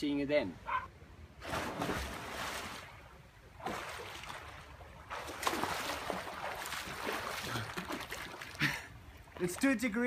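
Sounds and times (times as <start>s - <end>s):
water splashing from swimming: 1.4s - 9.7s.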